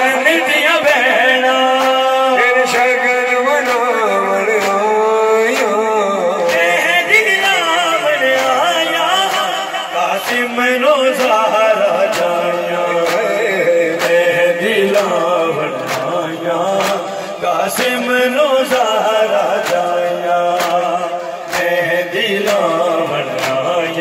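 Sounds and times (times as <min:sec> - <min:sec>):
man chanting over loudspeaker: 0:00.0 - 0:24.0.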